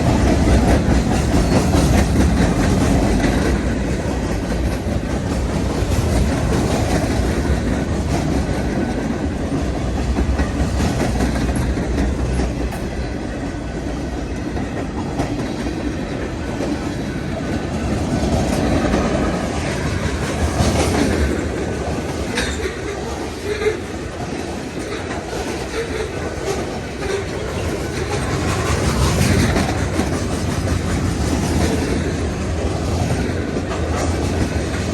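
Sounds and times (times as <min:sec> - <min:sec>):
freight train rolling past: 0:00.0 - 0:34.9.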